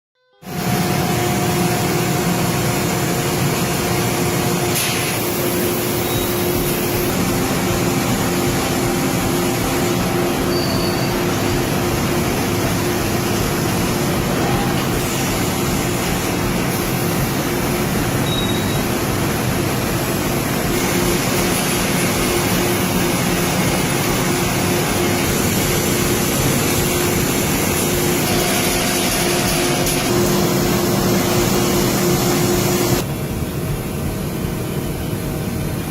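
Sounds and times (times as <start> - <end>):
constant machine tone: 0.4 - 35.9
machine drone: 0.4 - 35.9.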